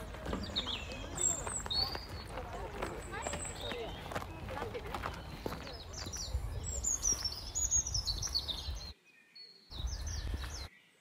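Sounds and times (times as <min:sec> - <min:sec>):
small songbird chirping: 0:00.0 - 0:11.0.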